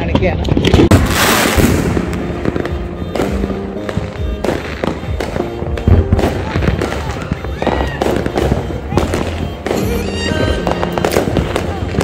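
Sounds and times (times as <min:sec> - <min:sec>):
fireworks bangs and crackling: 0:00.0 - 0:12.0
music playing: 0:00.8 - 0:12.0.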